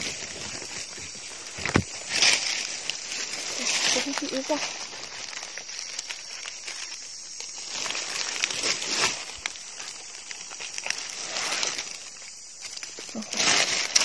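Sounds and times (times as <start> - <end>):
dry leaves crunching and rustling: 0.0 - 14.0.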